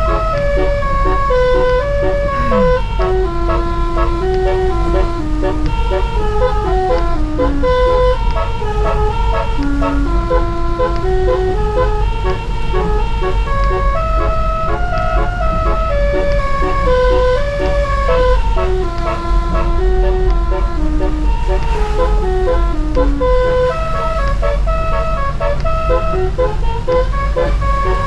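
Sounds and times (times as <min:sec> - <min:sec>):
low steady rumble: 0:00.0 - 0:28.0
truck music horn melody: 0:00.0 - 0:28.0.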